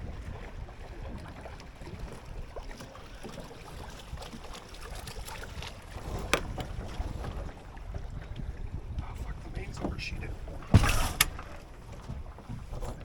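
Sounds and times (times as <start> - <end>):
water splashing along hull: 0.0 - 13.0
wind on microphone: 0.0 - 13.0.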